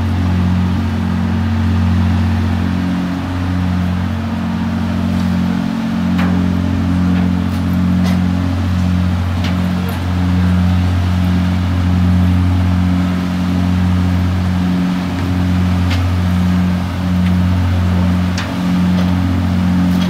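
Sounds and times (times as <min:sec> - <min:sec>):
diesel machinery idling: 0:00.0 - 0:20.0.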